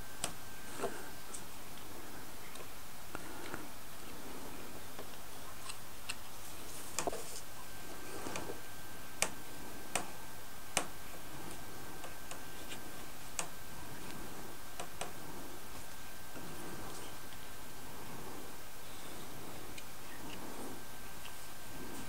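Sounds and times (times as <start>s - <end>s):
low hiss: 0.0s - 22.0s.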